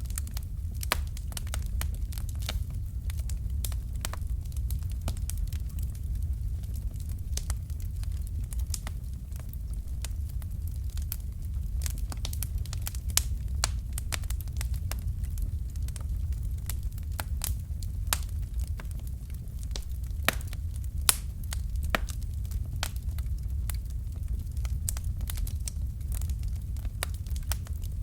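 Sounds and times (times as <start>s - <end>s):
fireplace fire crackling: 0.0s - 28.0s
low fire rumble: 0.0s - 28.0s.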